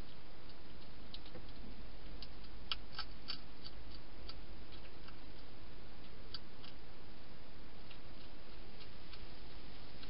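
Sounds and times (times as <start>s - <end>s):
hedgehog chewing food: 0.0s - 10.0s
steady hiss: 0.0s - 10.0s.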